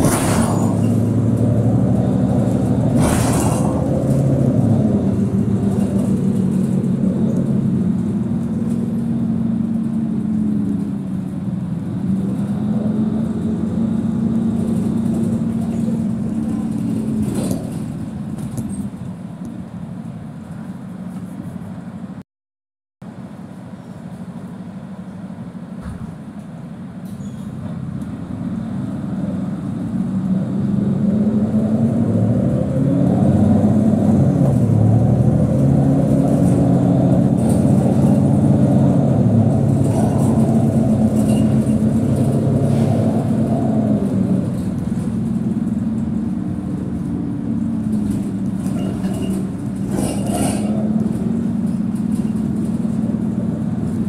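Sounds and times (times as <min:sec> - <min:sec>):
bus engine accelerating: 0:00.0 - 0:22.2, 0:23.1 - 0:54.0.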